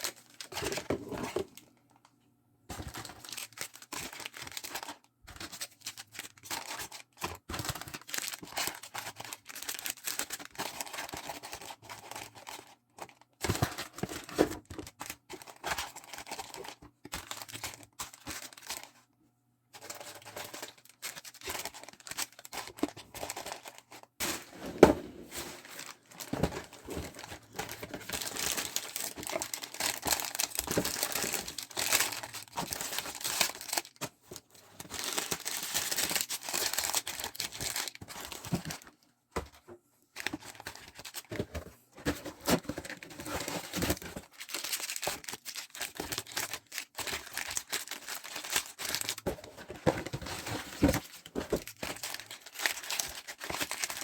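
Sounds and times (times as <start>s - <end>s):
plastic packaging crinkling: 2.8s - 19.0s, 19.8s - 38.9s, 42.2s - 54.0s.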